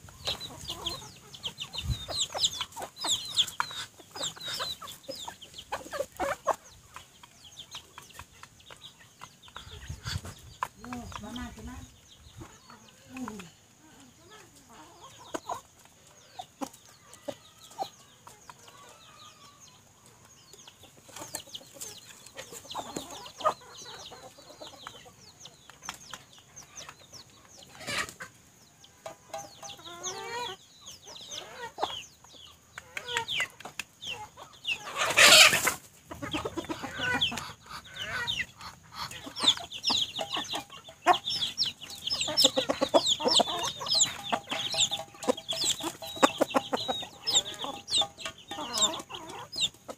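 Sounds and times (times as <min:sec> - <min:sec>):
chickens clucking softly: 0:00.0 - 0:49.9
chicks peeping: 0:00.0 - 0:49.9.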